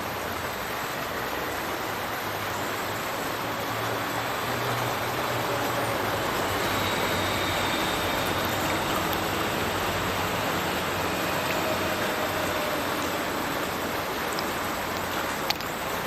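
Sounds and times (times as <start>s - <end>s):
water rushing and splashing: 0.0s - 16.0s.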